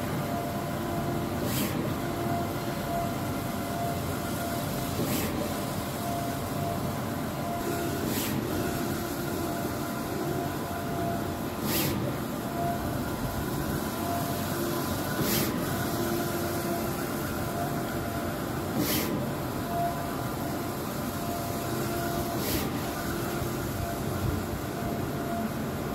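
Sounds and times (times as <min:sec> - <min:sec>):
printer mechanical hum: 0:00.0 - 0:25.9.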